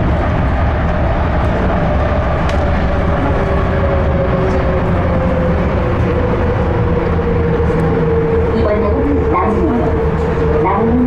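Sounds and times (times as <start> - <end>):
train rumbling in tunnel: 0.0 - 11.0
train whine: 0.0 - 11.0.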